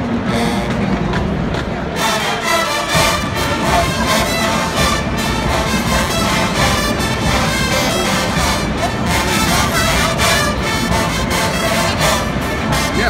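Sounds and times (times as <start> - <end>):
marching band brass playing: 0.0 - 13.0.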